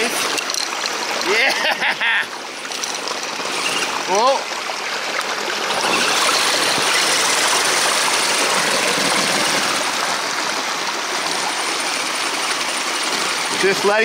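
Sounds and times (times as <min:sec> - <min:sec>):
creek water rushing: 0:00.0 - 0:14.0
electric motors and winch whirring: 0:02.2 - 0:14.0.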